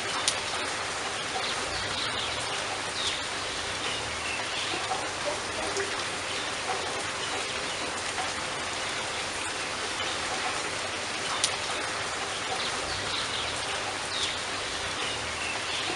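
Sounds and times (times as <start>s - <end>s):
rain falling: 0.0s - 15.9s
sharp water drip: 0.0s - 15.9s.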